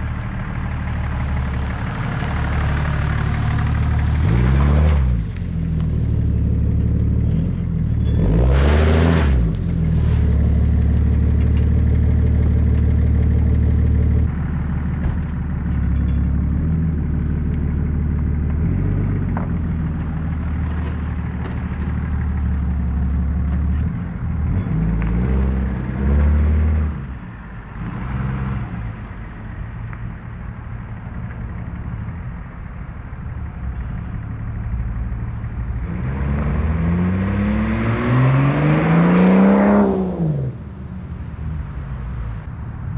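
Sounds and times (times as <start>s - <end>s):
loud diesel engine droning: 0.0s - 42.9s.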